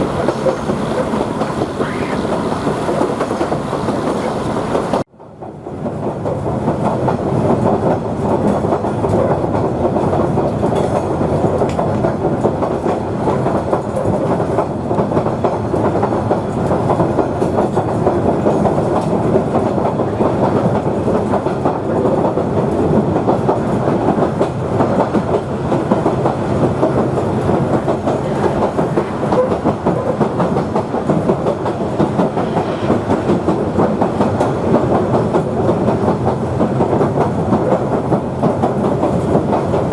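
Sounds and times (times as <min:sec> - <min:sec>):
train engine: 0:00.0 - 0:39.9.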